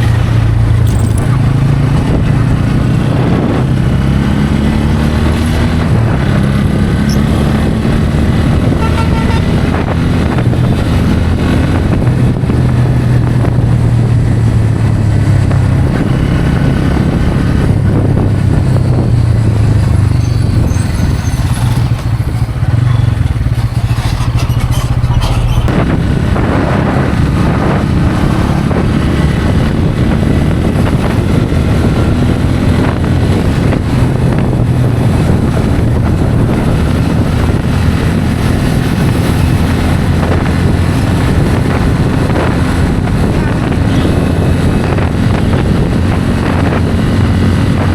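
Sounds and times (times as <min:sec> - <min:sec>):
motorcycle engine running: 0:00.0 - 0:47.9
road noise: 0:00.0 - 0:47.9
wind noise: 0:00.0 - 0:47.9.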